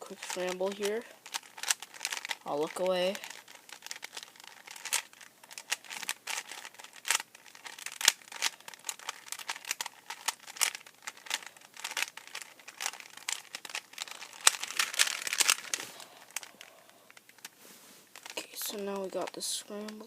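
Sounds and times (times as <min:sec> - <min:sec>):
puzzle cube clicking and rattling: 0:00.0 - 0:17.5, 0:18.1 - 0:20.0.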